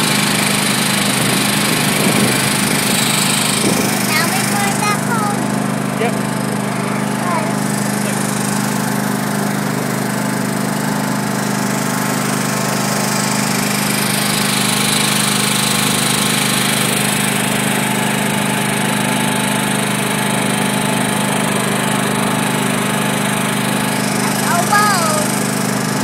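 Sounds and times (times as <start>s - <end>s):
vehicle engine running steadily: 0.0s - 26.0s.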